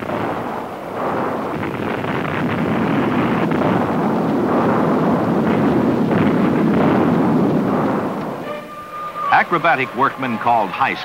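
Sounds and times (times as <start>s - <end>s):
explosion rumbling roar: 0.0s - 11.0s
sharp crackles: 0.0s - 11.0s.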